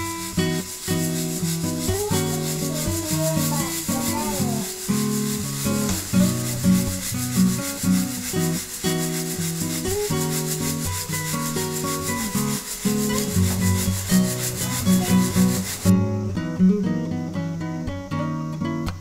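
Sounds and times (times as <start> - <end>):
coffee beans rattling in roaster: 0.0 - 16.0
acoustic guitar music: 0.0 - 19.0.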